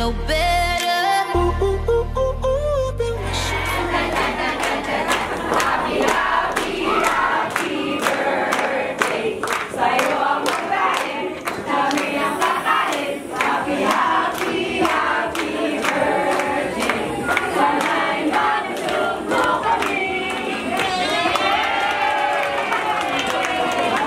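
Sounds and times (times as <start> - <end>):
many voices singing together: 3.2 - 24.0.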